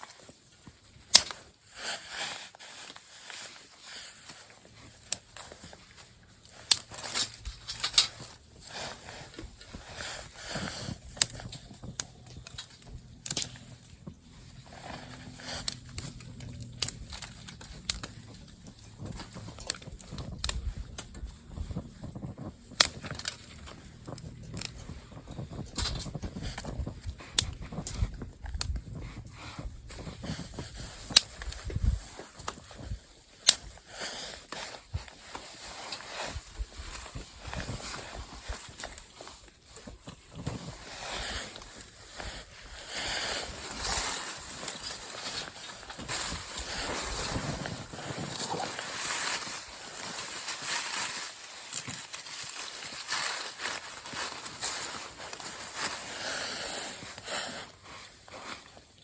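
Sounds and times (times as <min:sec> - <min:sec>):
soft rustle: 0:00.0 - 0:59.0.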